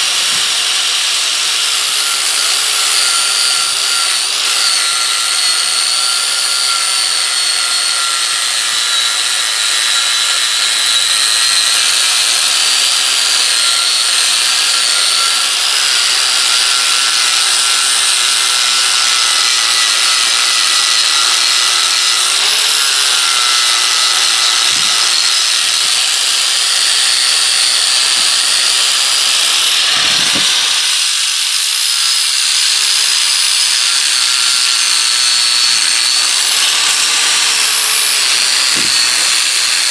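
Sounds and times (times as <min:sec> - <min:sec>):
angle grinder on steel: 0:00.0 - 0:39.9.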